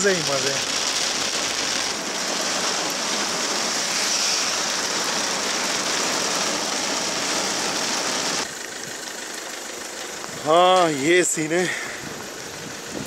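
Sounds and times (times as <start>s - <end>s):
heavy rain: 0.0s - 13.0s
tyres on wet road: 0.0s - 13.0s.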